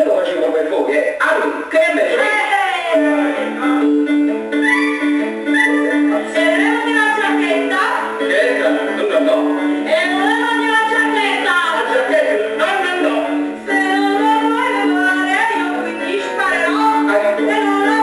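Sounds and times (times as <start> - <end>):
instrumental backing: 1.2 - 18.0
duet singing: 2.1 - 18.0.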